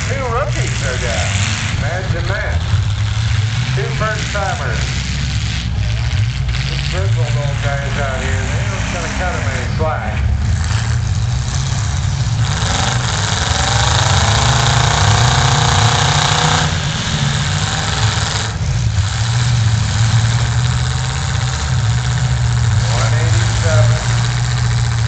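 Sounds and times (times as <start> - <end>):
engine revving: 0.0 - 25.0
truck engines droning: 0.0 - 25.0.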